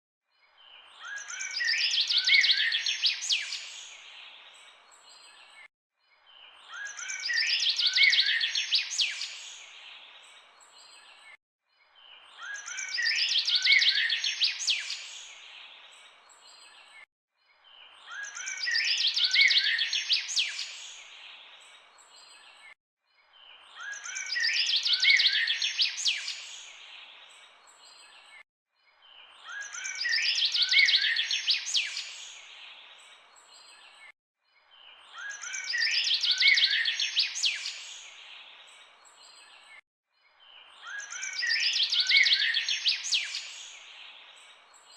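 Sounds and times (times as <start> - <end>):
birds chirping and singing: 0.6 - 11.3, 11.9 - 17.0, 17.6 - 28.4, 29.0 - 44.9.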